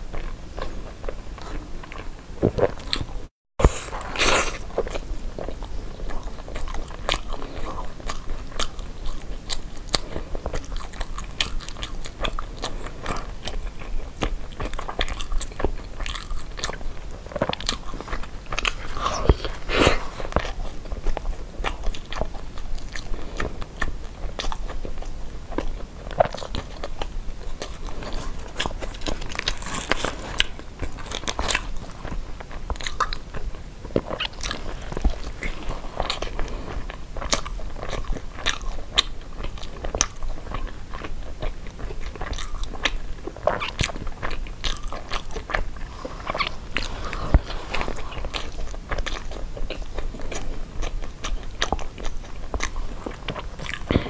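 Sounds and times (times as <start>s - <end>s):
person chewing sticky food: 0.0s - 54.0s.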